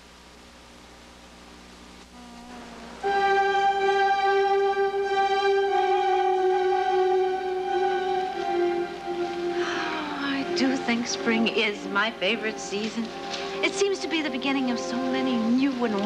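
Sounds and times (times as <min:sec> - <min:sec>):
background music with high held notes: 0:02.2 - 0:16.0.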